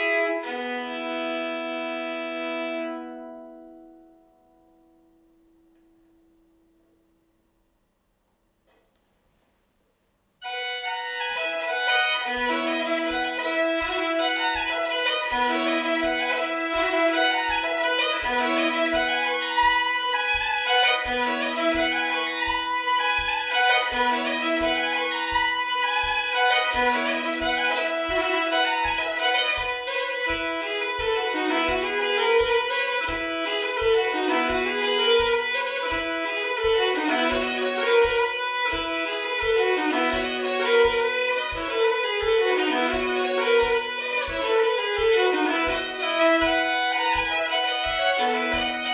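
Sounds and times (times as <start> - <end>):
solo fiddle folk tune: 0.0 - 3.8, 10.4 - 48.9.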